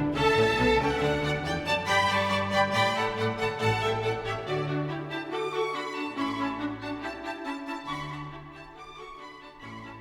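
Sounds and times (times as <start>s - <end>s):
orchestral strings with violin: 0.0s - 10.0s.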